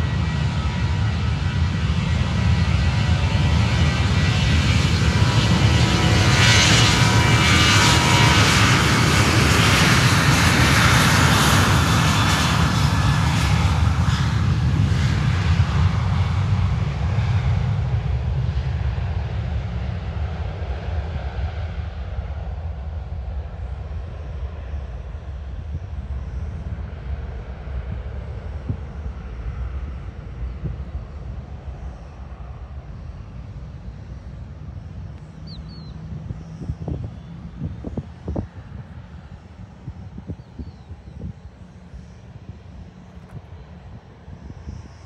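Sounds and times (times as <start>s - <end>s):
jet engines rumbling and whining: 0.0s - 45.0s.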